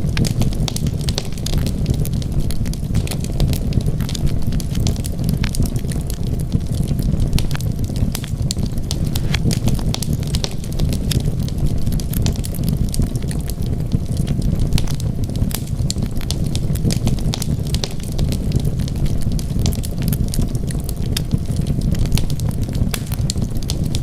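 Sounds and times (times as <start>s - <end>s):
fire crackling and popping: 0.0s - 24.0s
rumble of flames: 0.0s - 24.0s.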